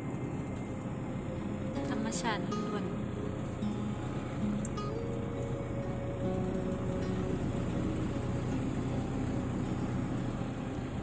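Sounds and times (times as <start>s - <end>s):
background music with held notes: 0.6s - 11.0s.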